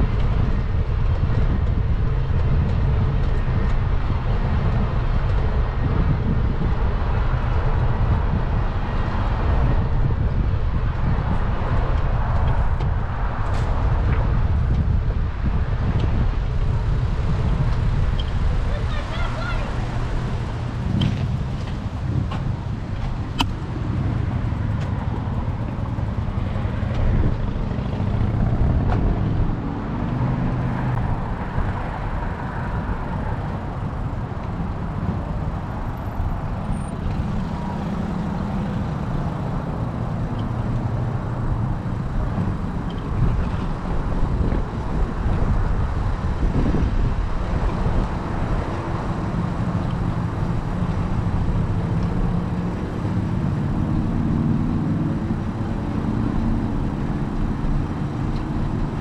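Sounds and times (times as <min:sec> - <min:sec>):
road and traffic noise: 0:00.0 - 0:59.0
wind buffeting microphone: 0:00.0 - 0:59.0.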